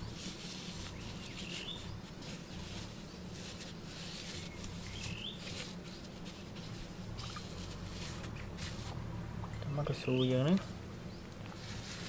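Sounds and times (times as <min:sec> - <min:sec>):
hands rubbing dry soil: 0:00.0 - 0:12.0
low steady hum: 0:00.0 - 0:12.0.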